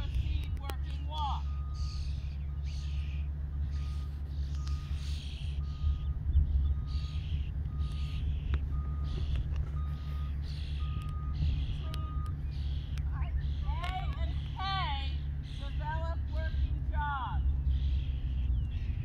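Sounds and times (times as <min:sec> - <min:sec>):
wind buffeting microphone: 0:00.0 - 0:03.7, 0:04.5 - 0:19.0.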